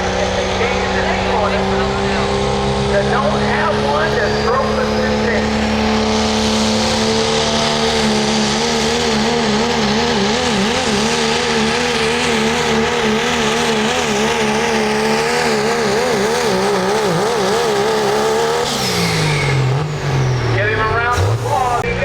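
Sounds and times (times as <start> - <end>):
engine running flat out: 0.0 - 22.0.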